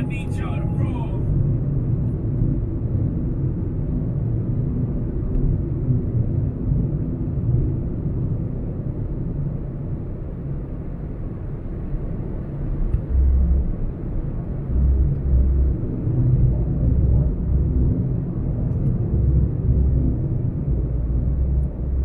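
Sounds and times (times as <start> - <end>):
road and engine rumble: 0.0 - 22.0.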